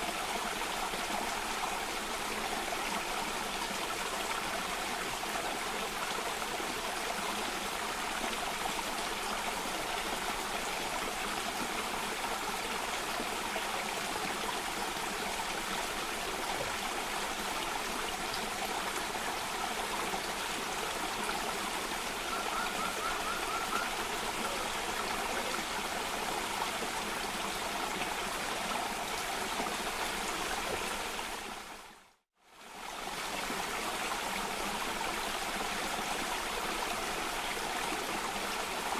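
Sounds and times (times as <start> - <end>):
water cascading over rocks: 0.0 - 31.9.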